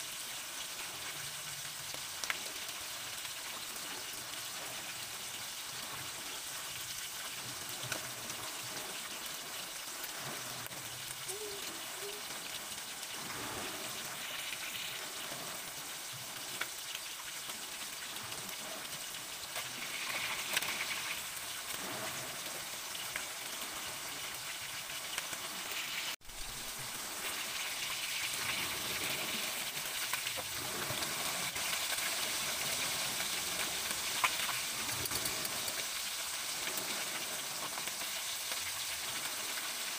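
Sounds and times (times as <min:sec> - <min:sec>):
fish frying in oil: 0:00.0 - 0:39.9.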